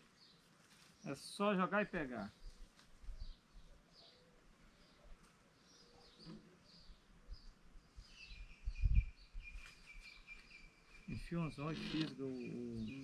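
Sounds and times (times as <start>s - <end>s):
faint bird chirps: 2.3s - 13.0s.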